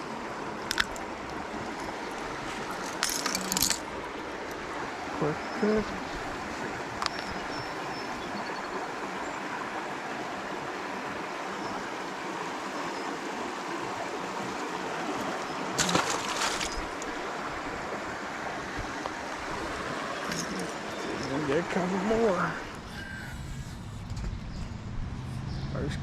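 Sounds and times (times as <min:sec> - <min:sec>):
creek water flowing: 0:00.0 - 0:26.0.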